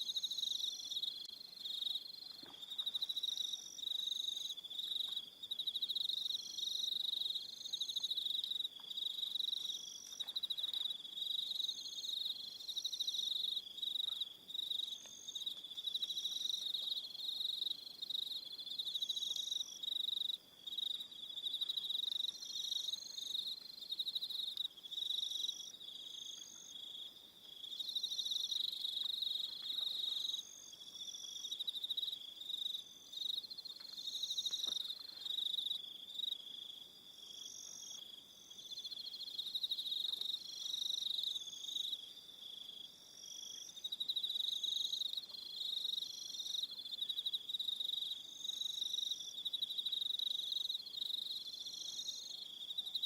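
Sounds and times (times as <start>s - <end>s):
high cricket chirps: 0.0s - 53.0s.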